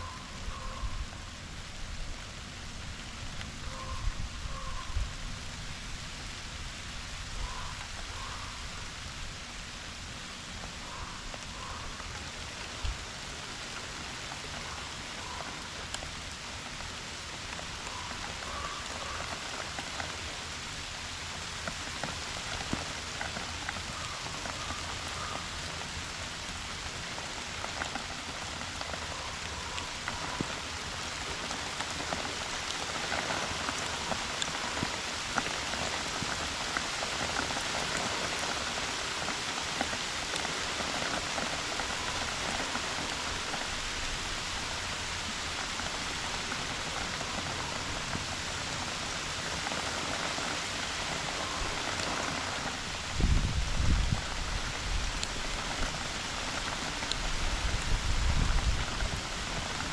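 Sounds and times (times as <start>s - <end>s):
steady rain hiss: 0.0s - 59.9s
raindrops ticking: 7.4s - 59.9s.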